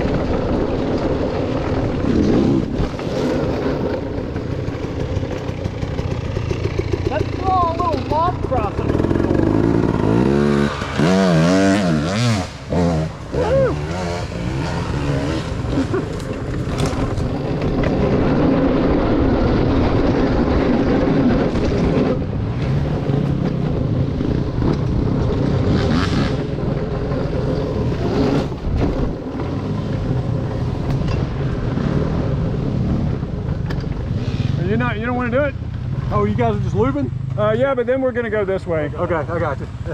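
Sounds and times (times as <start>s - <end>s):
dirt bike engine running: 0.0s - 38.2s.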